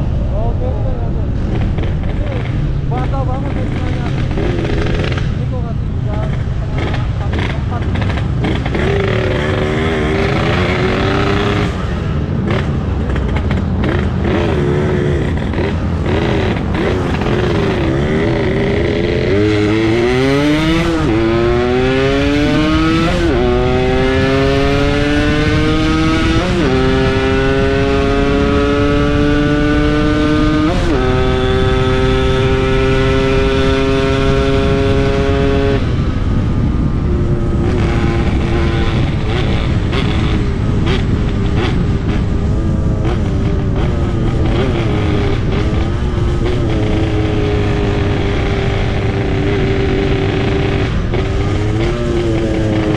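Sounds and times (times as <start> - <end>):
two-stroke motorcycle engine revving: 1.3 - 52.9.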